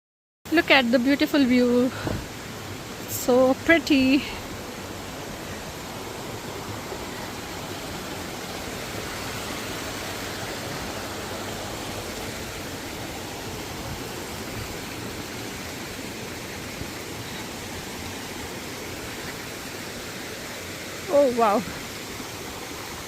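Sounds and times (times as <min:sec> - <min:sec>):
rushing water: 0:00.5 - 0:23.0.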